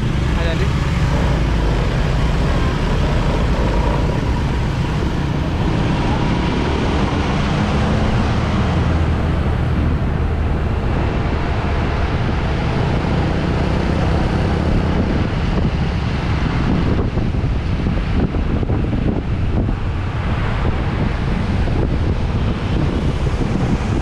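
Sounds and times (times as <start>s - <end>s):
vehicle engine hum: 0.0s - 24.0s
wind and road noise: 0.0s - 24.0s.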